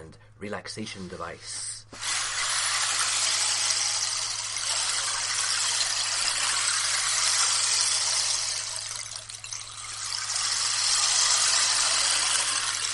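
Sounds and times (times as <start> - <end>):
rainstick filling rushing: 2.0 - 12.9.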